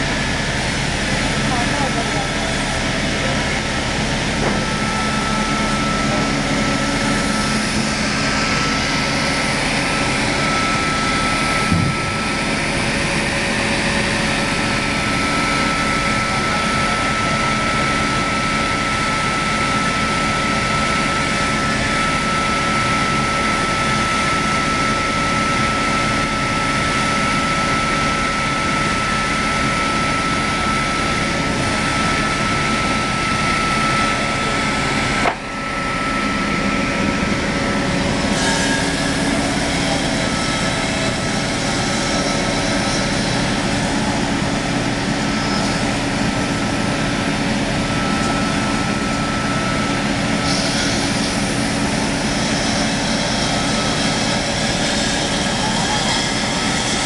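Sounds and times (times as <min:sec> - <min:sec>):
sawing machine running with whine: 0:00.0 - 0:57.0.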